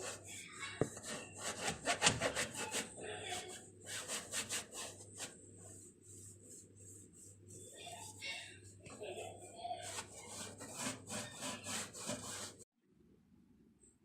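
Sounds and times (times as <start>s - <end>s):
scrubbing strokes: 0.0s - 12.7s.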